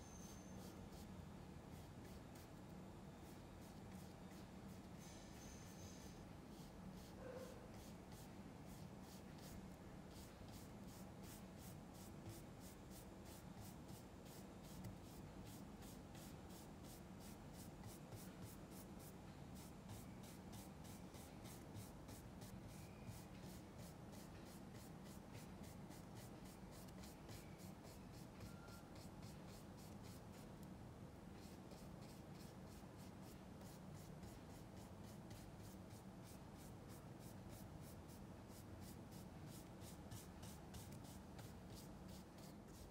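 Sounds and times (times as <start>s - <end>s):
bristle brush scratching canvas: 6.0s - 30.5s, 31.4s - 42.9s.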